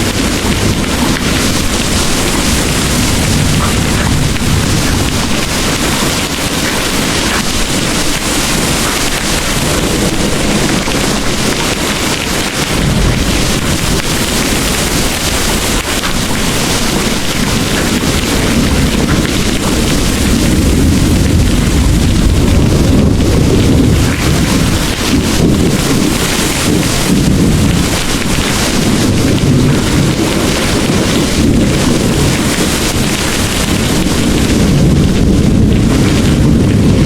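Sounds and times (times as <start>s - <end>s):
distant thunder rumbling: 0.0s - 37.0s
heavy rain pouring: 0.0s - 37.0s.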